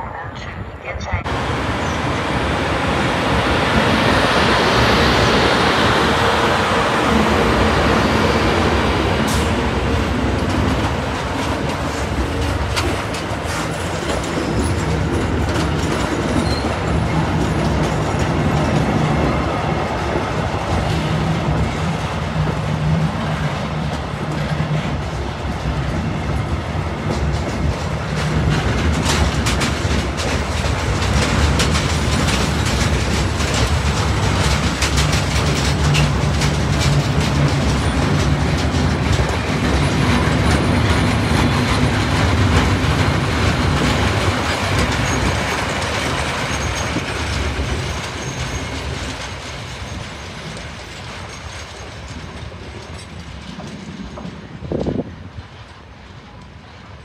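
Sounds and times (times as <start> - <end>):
train wheels clattering: 3.2 - 56.5.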